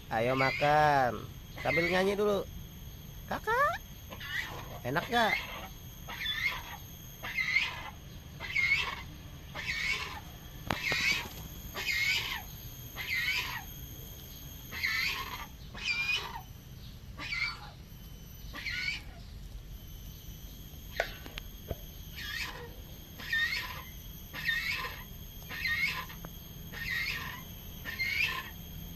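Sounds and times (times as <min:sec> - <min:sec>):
cockatoo calling: 0:00.0 - 0:19.4, 0:20.1 - 0:28.9.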